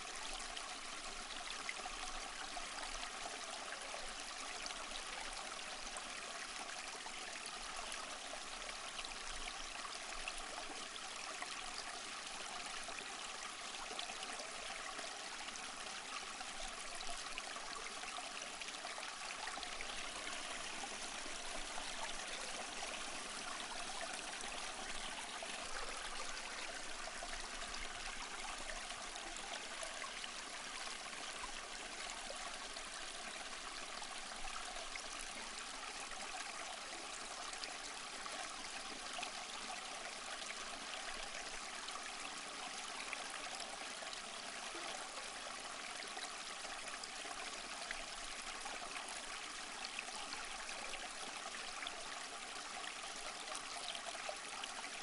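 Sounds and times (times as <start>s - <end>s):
stream running water: 0.0s - 55.0s.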